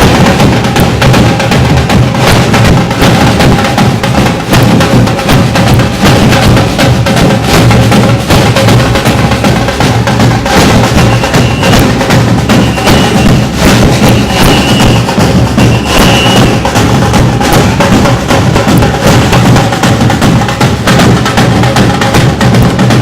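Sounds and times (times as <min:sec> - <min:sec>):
samba percussion band: 0:00.0 - 0:23.0.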